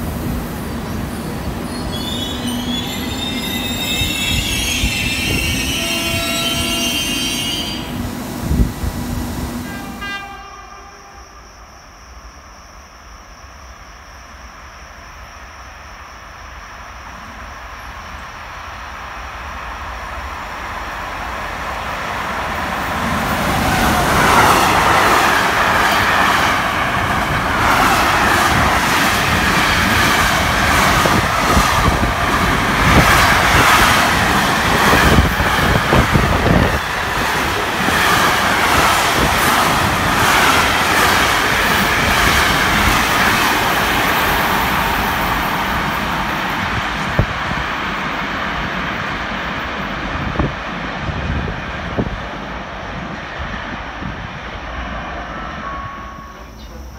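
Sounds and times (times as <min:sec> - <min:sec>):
freight train passing: 0:00.0 - 0:56.9.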